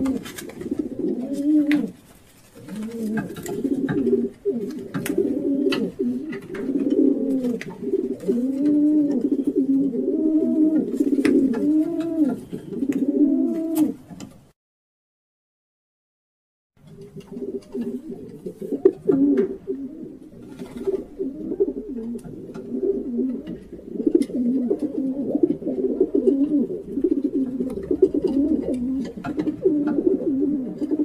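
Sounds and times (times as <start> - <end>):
pigeons cooing: 0.0 - 14.1, 16.9 - 31.0.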